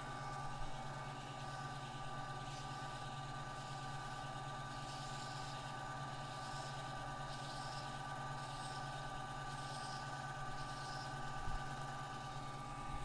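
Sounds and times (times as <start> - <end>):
lathe motor hum: 0.0 - 13.0.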